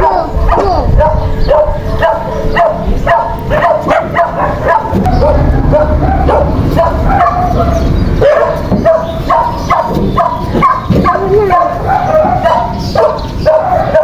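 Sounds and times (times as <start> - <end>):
dogs barking and yipping: 0.0 - 14.0.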